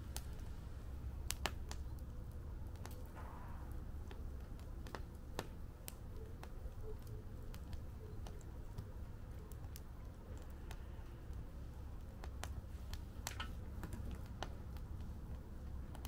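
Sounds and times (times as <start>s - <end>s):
low steady fire rumble: 0.0s - 16.0s
wood fire crackling and popping: 0.0s - 16.0s.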